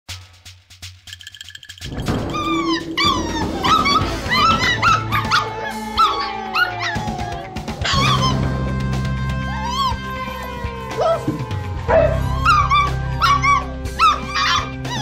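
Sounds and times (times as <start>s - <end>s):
background music: 0.1s - 15.0s
puppies yipping and whining: 2.0s - 8.5s, 9.5s - 15.0s.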